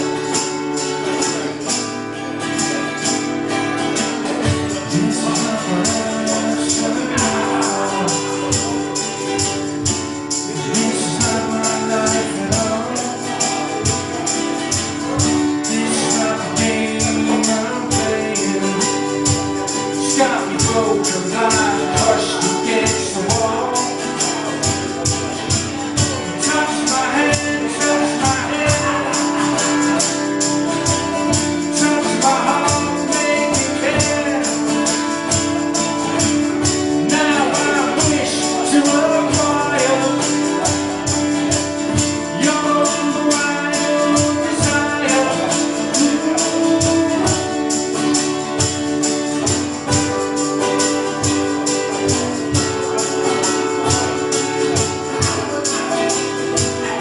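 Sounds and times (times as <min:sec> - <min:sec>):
live band playing: 0:00.0 - 0:57.0
person singing: 0:04.0 - 0:57.0.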